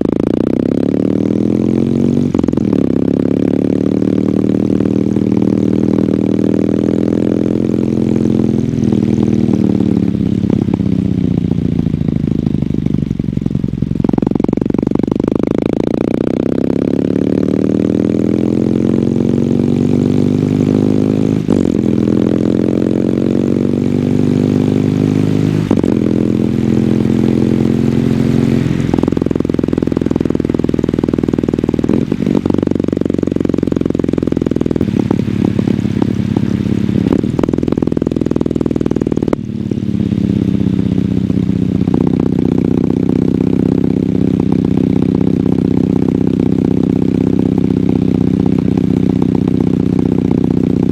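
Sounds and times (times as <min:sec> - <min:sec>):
motorcycle engine revving through gears: 0:00.0 - 0:50.9.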